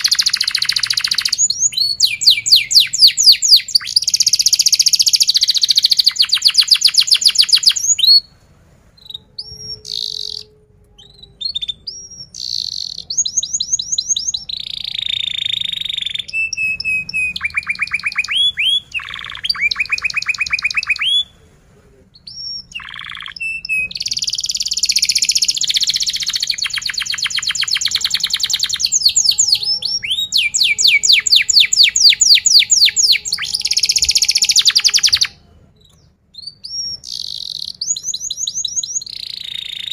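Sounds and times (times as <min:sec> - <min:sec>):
canary singing trills: 0:00.0 - 0:08.3, 0:09.0 - 0:21.4, 0:22.1 - 0:39.9.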